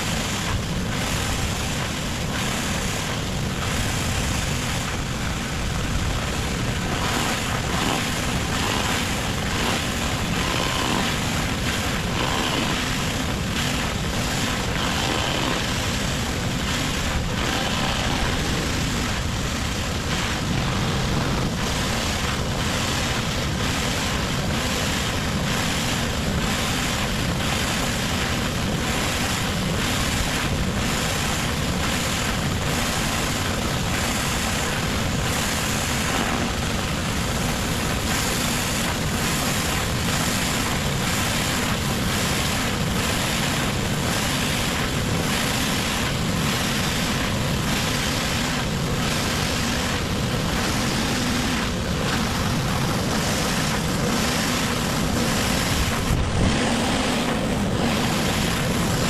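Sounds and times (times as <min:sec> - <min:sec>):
pressure washer spraying: 0:00.0 - 0:59.0.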